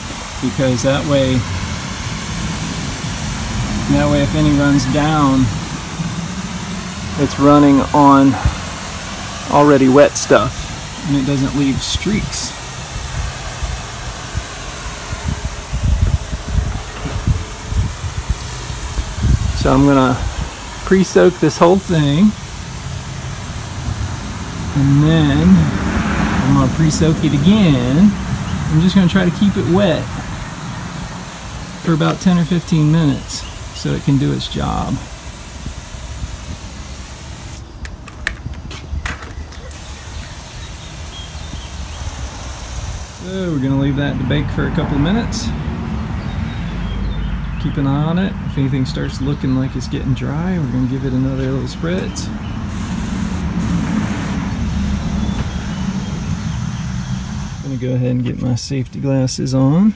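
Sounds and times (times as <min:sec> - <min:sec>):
spray wand hissing: 0:00.0 - 0:38.0, 0:39.6 - 0:45.6, 0:50.6 - 0:58.2
low rumbles: 0:00.0 - 0:59.5
pressure washer engine running: 0:00.0 - 0:59.9.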